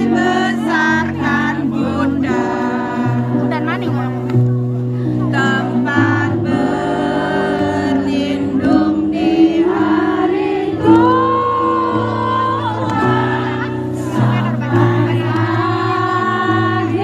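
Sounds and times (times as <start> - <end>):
woman singing through pa: 0.0 - 4.3, 5.2 - 17.0
backing music: 0.0 - 17.0.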